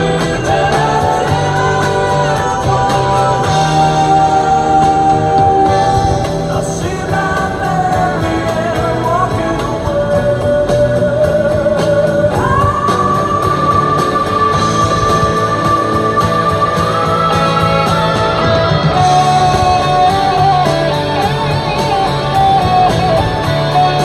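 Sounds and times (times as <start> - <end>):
song with singer and guitar: 0.0 - 24.0.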